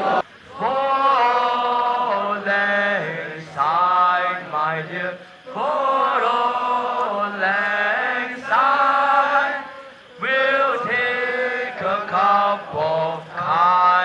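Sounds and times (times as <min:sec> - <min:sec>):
voices chanting: 0:00.0 - 0:14.0.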